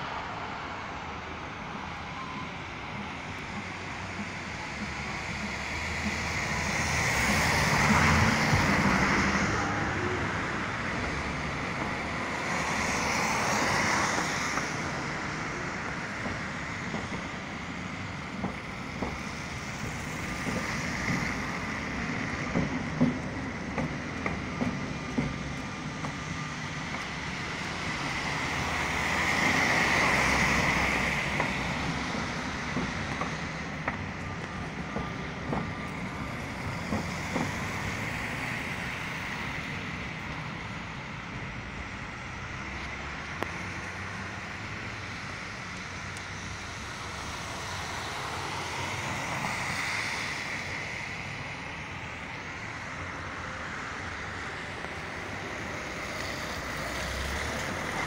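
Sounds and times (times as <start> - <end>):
vehicles swishing past on wet road: 0.0 - 58.0.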